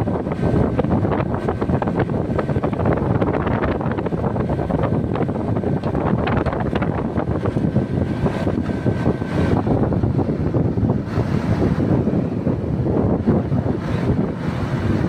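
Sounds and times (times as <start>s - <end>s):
air conditioner unit rushing: 0.0s - 15.0s
wind buffeting microphone: 0.0s - 15.0s.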